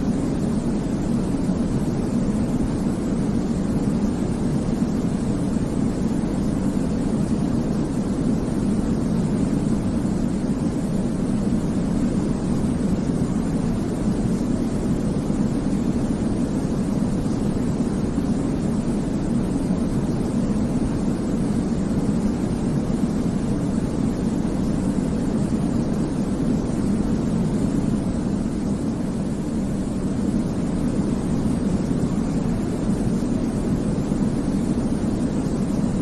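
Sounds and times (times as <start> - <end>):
deep white noise: 0.0 - 36.0.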